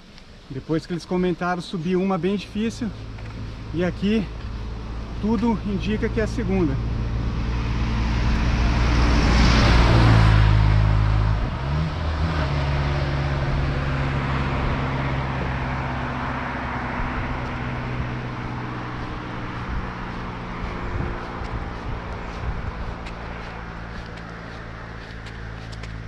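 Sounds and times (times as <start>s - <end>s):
vehicle passing on road: 1.8s - 26.0s.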